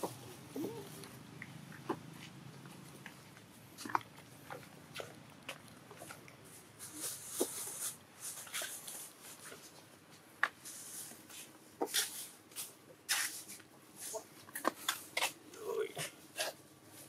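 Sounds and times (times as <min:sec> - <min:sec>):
monkeys rustling: 0:00.0 - 0:17.0.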